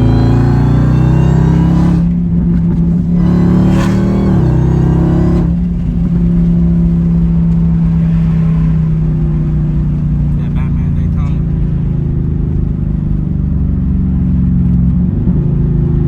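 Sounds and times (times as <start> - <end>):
car engine while driving: 0.0 - 16.0.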